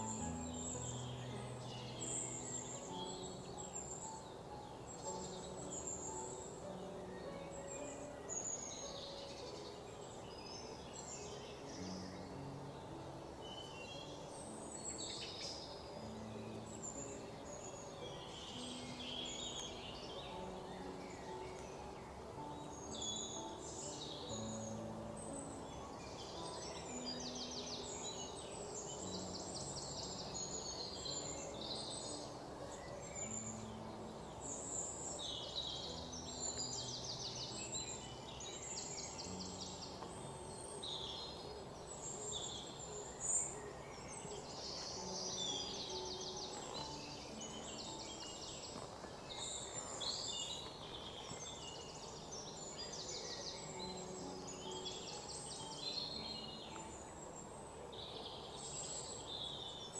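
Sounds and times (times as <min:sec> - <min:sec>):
small birds chirping and trilling: 0:00.0 - 0:59.9
steady background hiss: 0:00.0 - 0:59.9.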